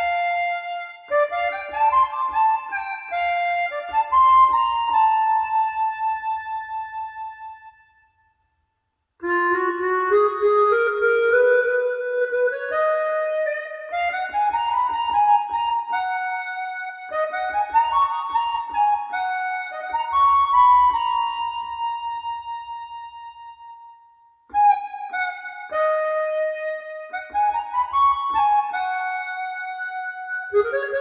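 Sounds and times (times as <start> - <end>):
harmonica music through speakers: 0.0 - 7.9, 9.2 - 31.0.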